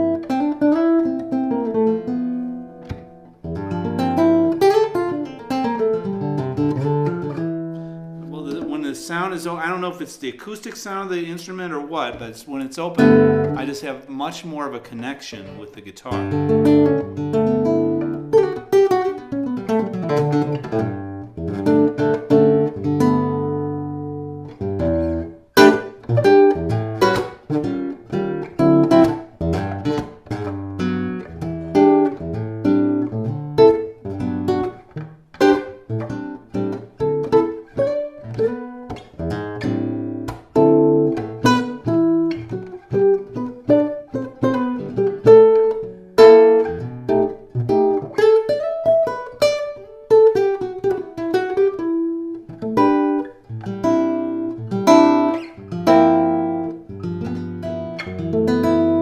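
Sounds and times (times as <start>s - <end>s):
classical guitar fingerpicked: 0.0s - 59.0s.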